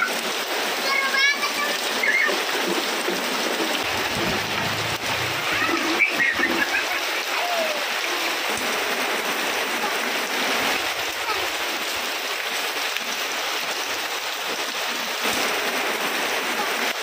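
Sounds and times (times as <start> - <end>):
rain on concrete and roof: 0.0 - 17.0
water running off roof: 0.0 - 17.0.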